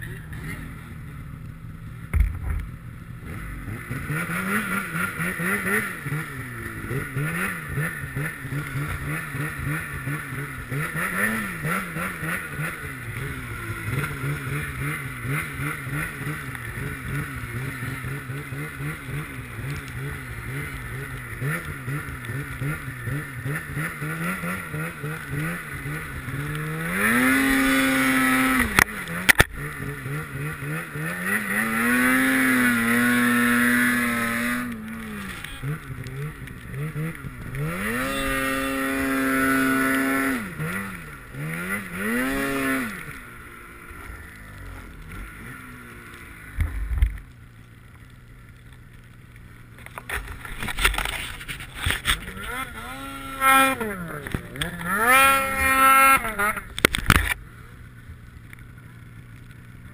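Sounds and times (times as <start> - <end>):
snowmobile engine revving: 3.1 - 47.0, 50.0 - 58.1.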